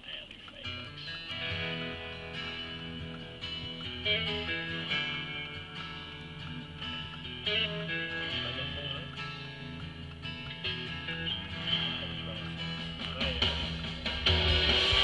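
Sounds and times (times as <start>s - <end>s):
guitar music from car radio: 0.0s - 15.0s.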